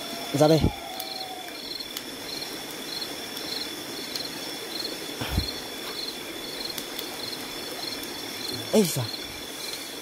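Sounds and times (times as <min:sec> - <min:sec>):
high insect whine: 0:00.0 - 0:10.0
insect chirping in high trills: 0:00.0 - 0:10.0
stream water running: 0:00.0 - 0:10.0.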